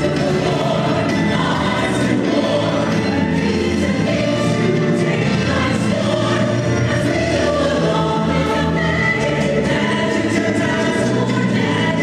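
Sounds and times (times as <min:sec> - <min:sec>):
chorus singing show tune: 0:00.0 - 0:12.0
instrumental backing music: 0:00.0 - 0:12.0.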